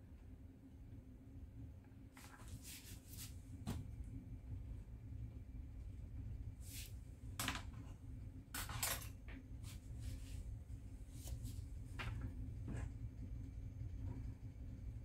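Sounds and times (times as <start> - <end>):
low hum: 2.7 - 15.0.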